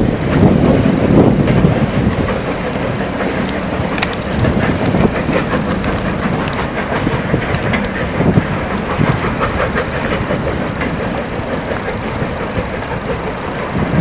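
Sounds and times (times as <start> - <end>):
goods train rumbling: 0.0 - 14.0
wagon wheels clattering on rails: 0.0 - 14.0.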